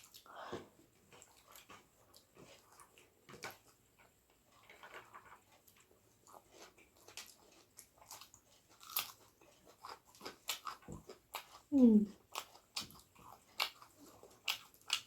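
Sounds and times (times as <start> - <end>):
person chewing: 0.0 - 0.3, 1.1 - 15.0.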